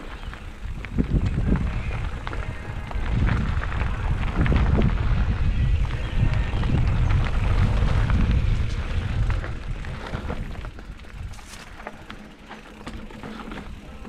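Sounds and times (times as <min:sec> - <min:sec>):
wind buffeting microphone: 0:00.0 - 0:12.2
bike clicks and rattles: 0:00.0 - 0:14.0
bike tyres hissing on dirt: 0:00.0 - 0:14.0.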